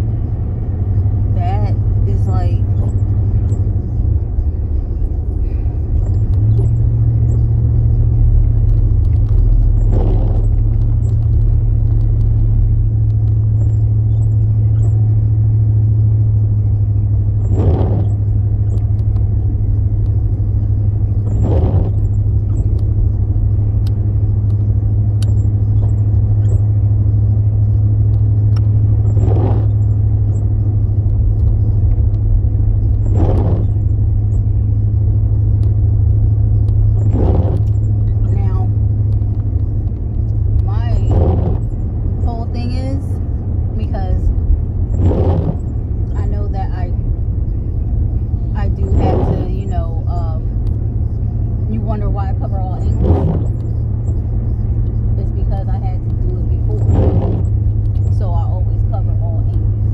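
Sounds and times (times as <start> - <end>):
car road and engine drone: 0.0 - 59.9.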